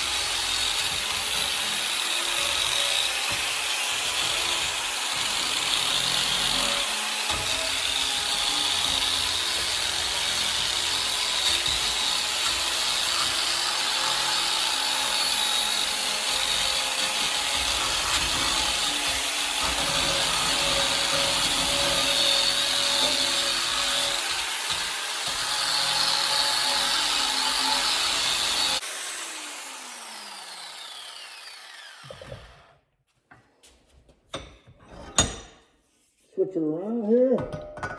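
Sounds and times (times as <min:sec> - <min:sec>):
electric power tool running: 0:00.0 - 0:32.7.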